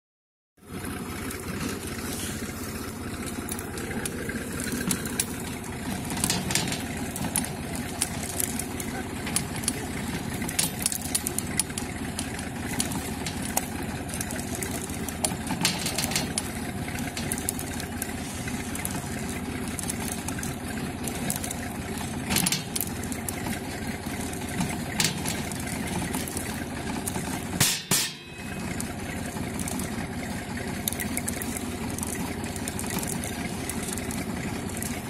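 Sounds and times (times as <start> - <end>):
engine running: 0.6 - 35.0.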